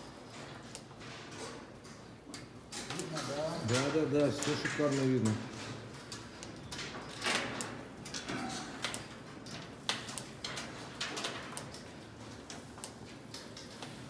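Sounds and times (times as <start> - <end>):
sharp clicks and knocks: 0.6 - 14.0.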